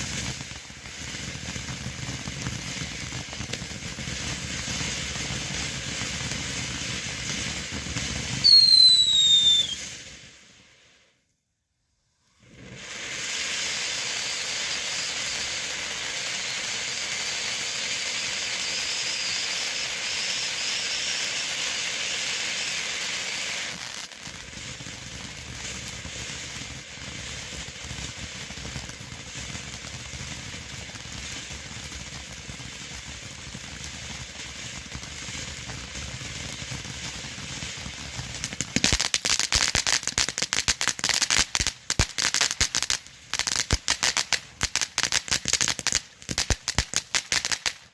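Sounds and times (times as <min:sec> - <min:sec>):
firework fountain hissing: 0:00.0 - 0:11.2, 0:12.2 - 0:47.9
firework crackling pops: 0:00.0 - 0:11.4, 0:12.2 - 0:47.9.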